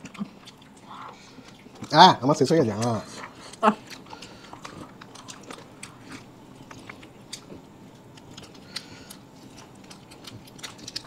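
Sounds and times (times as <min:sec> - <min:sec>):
people chewing and biting food: 0:00.0 - 0:11.0.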